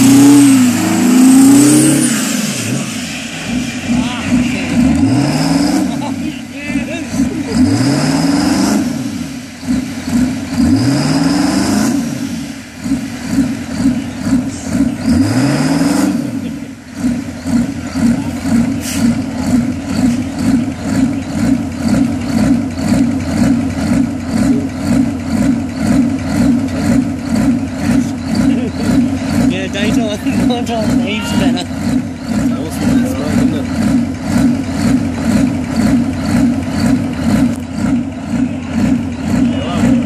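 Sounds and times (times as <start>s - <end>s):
truck engine revving with whine: 0.0s - 40.0s
lumpy loping engine idle: 2.5s - 5.2s, 5.8s - 7.9s, 8.8s - 10.9s, 12.0s - 15.4s, 16.2s - 40.0s.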